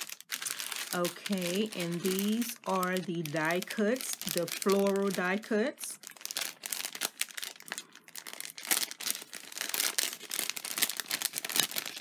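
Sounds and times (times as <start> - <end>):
cellophane bag crinkling: 0.0 - 12.0.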